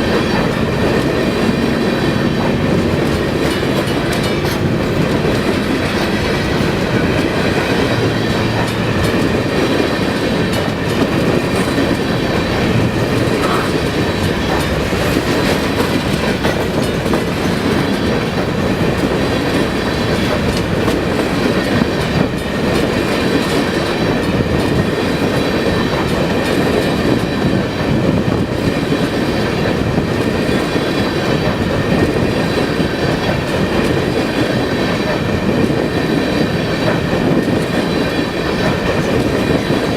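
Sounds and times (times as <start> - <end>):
freight train wheels on rails: 0.0 - 39.9
wheels clickety-clack: 0.0 - 39.9.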